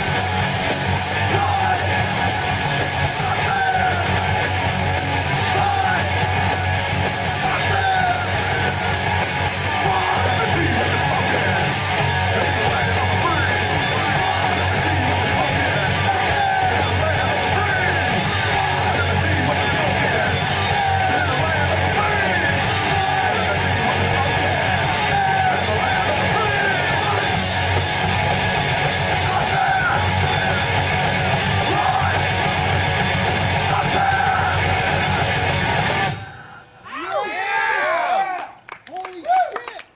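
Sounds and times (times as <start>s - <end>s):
electric guitar: 0.0s - 36.4s
live heavy rock band: 0.0s - 36.6s
shouted vocals: 0.0s - 39.9s.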